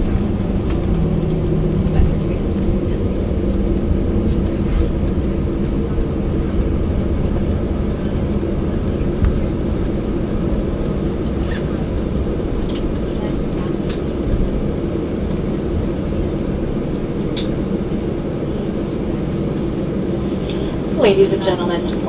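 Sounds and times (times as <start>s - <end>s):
aircraft cabin rumble: 0.0s - 22.0s
pitched hum: 0.0s - 22.0s.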